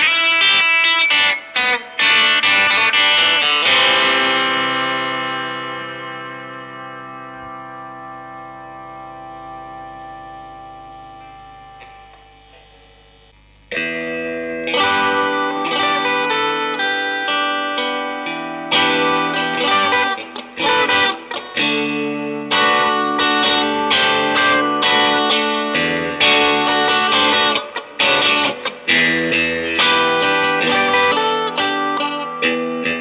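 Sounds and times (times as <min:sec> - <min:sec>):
electric guitar chords: 0:00.0 - 0:33.0.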